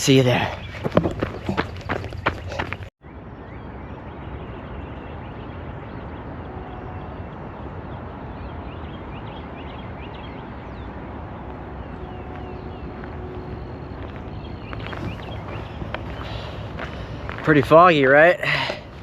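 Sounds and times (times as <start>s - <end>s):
small birds chirping: 0.0s - 2.9s, 3.5s - 19.0s.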